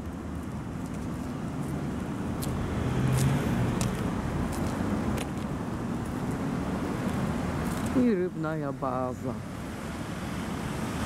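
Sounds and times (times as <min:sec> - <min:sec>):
road traffic noise: 0:00.0 - 0:11.0
car passing: 0:01.3 - 0:11.0.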